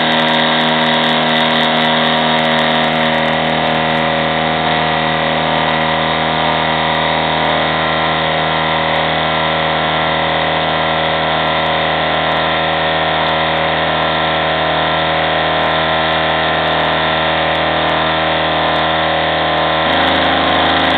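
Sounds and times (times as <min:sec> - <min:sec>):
milling machine spindle whine: 0:00.0 - 0:20.9.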